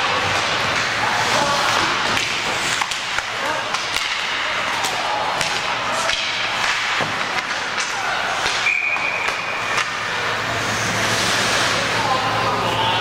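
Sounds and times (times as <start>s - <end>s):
hockey sticks and puck cracking: 0.0s - 12.4s
crowd voices din: 0.0s - 13.0s.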